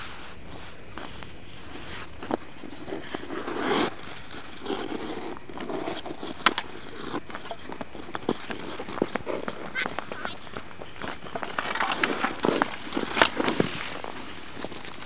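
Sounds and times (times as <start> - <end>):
ice skate blades scraping ice: 0.0 - 15.0.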